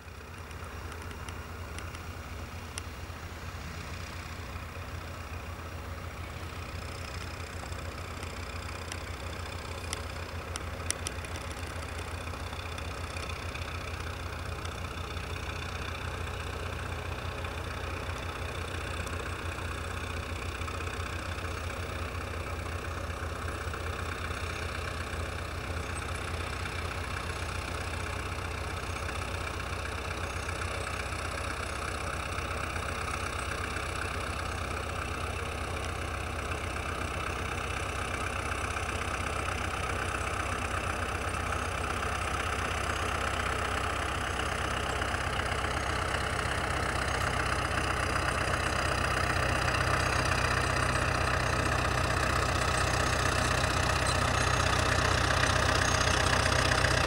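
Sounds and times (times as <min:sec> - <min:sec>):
tractor diesel engines running: 0:00.0 - 0:57.0.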